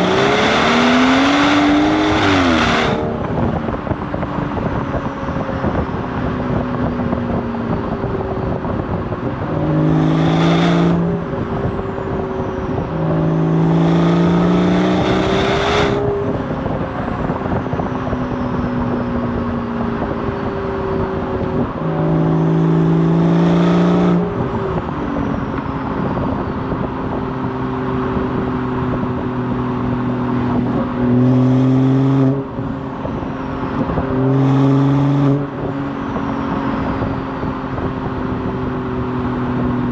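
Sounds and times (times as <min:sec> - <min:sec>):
car exhaust under hard acceleration: 0:00.0 - 0:39.9.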